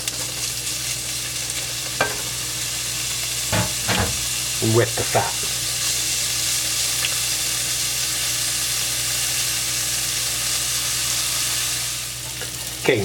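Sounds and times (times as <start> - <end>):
pork sizzling in a pan: 0.0 - 13.0.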